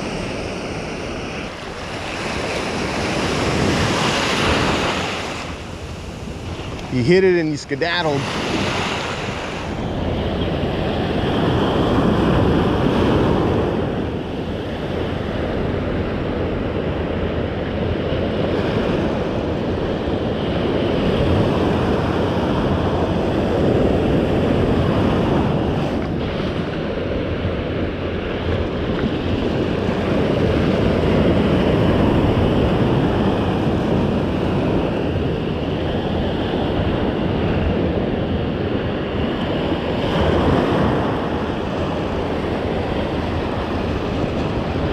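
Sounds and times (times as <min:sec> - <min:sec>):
surf breaking on sand: 0:00.0 - 0:44.9
wind rumbling on microphone: 0:00.0 - 0:44.9.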